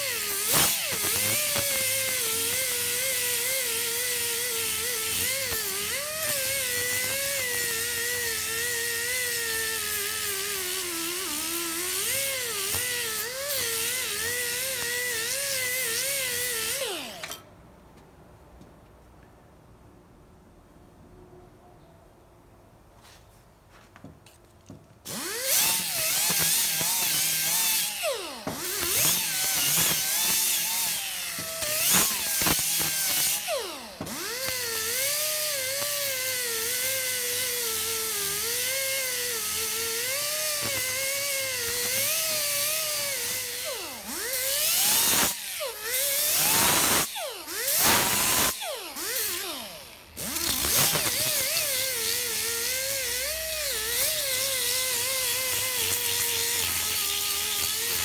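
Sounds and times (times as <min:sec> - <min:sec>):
pneumatic grinder grinding metal: 0:00.0 - 0:17.5, 0:25.0 - 0:58.0.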